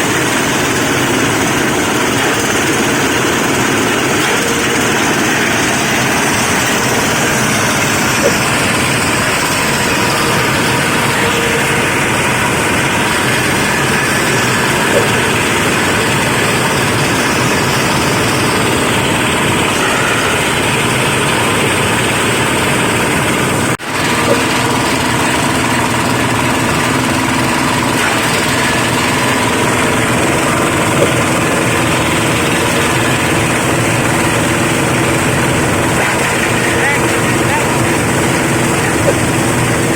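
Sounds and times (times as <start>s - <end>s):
shredder machine running: 0.0s - 39.9s.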